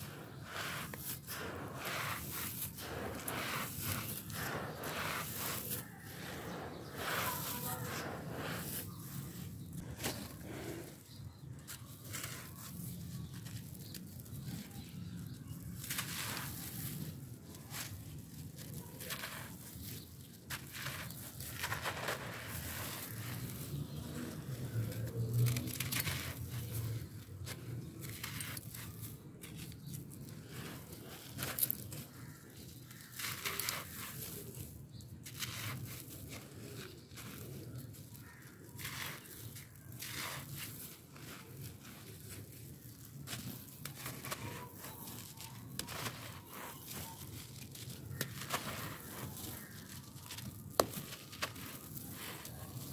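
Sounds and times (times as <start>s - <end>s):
grit trickling onto pile: 0.0s - 11.0s, 12.2s - 52.9s
gravelly sand crunching in hands: 0.0s - 52.9s.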